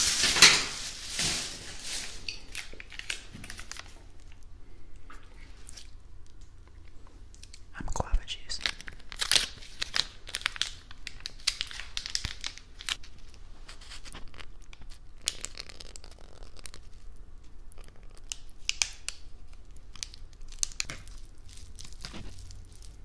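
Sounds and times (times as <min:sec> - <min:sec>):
sachet tearing and crinkling: 0:00.0 - 0:04.4, 0:07.4 - 0:23.0.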